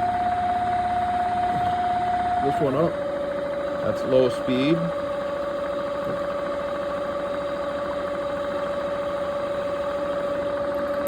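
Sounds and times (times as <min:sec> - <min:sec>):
motor spinning with steady whine: 0:00.0 - 0:11.0.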